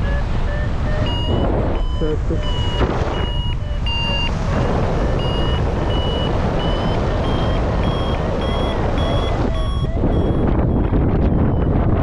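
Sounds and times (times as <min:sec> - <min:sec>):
variometer beeping: 0:00.0 - 0:12.0
wind rumble on microphone: 0:00.0 - 0:12.0.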